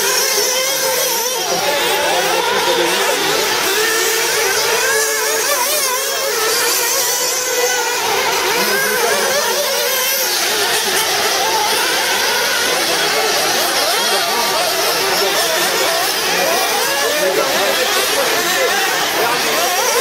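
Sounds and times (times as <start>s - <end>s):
rc buggy engines buzzing: 0.0s - 20.0s.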